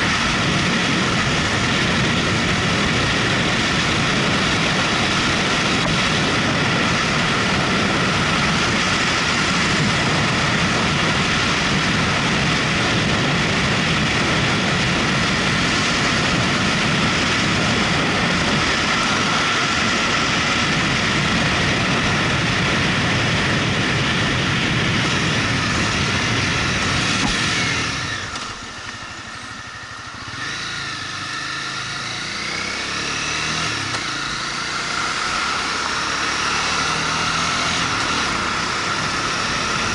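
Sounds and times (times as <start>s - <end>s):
motorcycle engine: 0.0s - 39.9s
wind noise: 0.0s - 39.9s.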